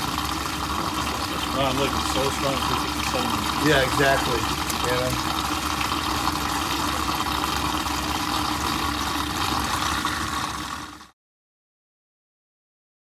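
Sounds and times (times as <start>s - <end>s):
water pump running: 0.0s - 11.1s.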